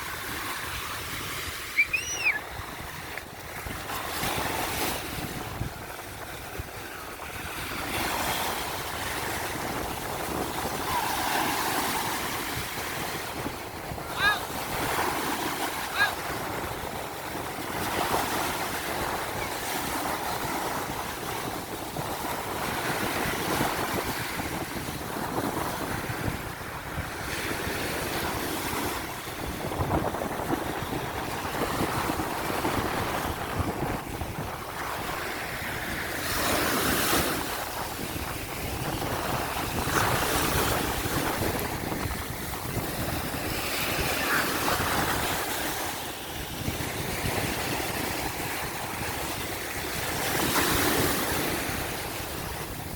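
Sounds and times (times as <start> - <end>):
waves breaking: 0.0 - 52.9
wind buffeting microphone: 0.0 - 52.9.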